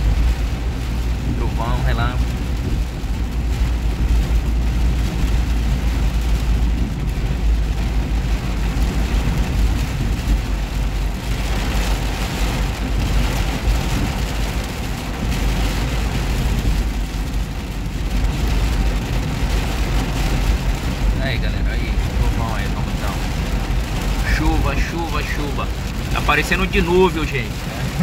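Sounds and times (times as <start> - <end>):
car rumble: 0.0 - 28.0
heavy rain on car roof: 0.0 - 28.0.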